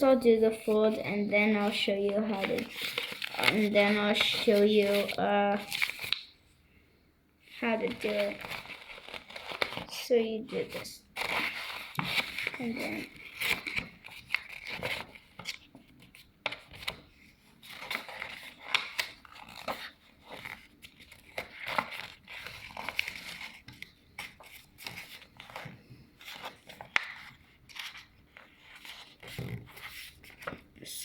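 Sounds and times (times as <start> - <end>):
paper being folded and creased: 0.0 - 6.3, 7.5 - 31.0.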